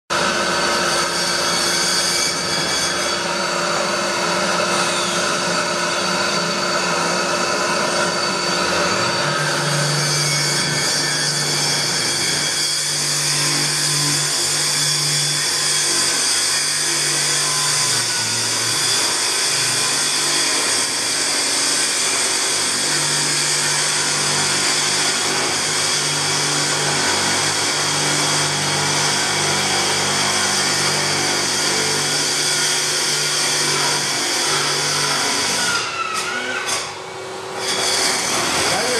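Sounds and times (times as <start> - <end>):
core drill motor whining: 0.2 - 38.9.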